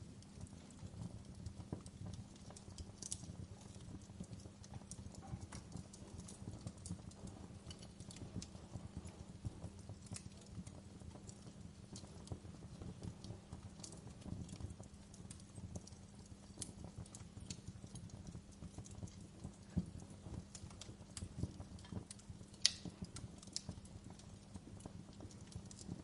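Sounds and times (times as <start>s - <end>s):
low fire rumble: 0.0s - 26.0s
wood fire crackling: 0.0s - 26.0s.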